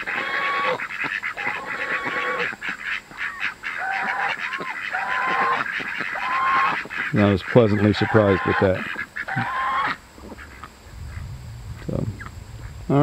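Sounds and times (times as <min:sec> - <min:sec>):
geese honking: 0:00.0 - 0:11.2
ducks quacking: 0:00.0 - 0:12.8.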